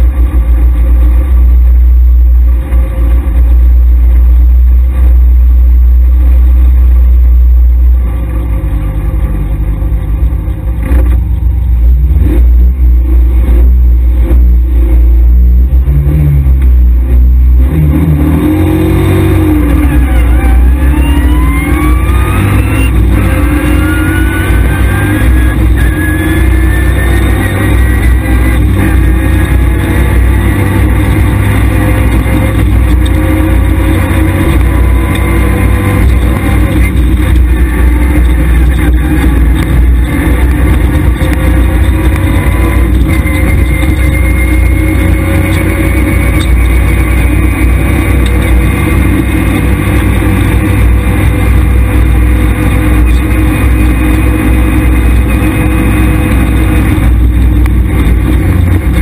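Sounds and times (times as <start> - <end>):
car engine accelerating: 0.0 - 59.0
low road rumble: 0.0 - 59.0.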